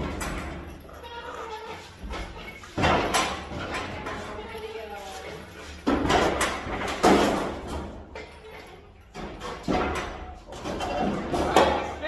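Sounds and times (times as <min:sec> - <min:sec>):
engine hoist rolling on concrete: 0:00.0 - 0:12.0.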